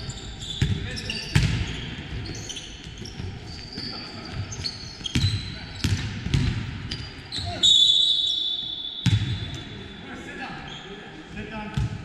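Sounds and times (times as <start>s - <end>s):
sneakers squeaking: 0.0s - 10.0s.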